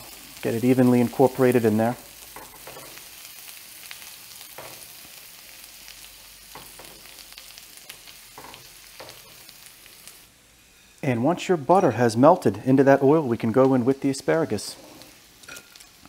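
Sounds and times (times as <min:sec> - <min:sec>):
shallots sizzling in oil: 0:00.0 - 0:16.0.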